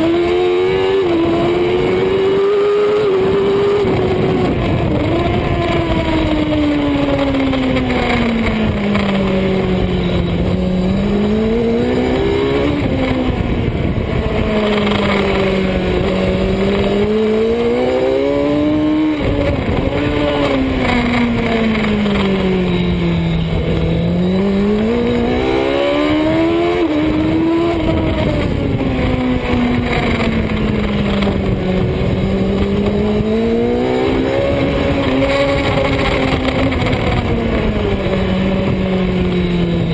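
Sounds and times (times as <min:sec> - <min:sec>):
motorbike engine revving under load: 0:00.0 - 0:39.9.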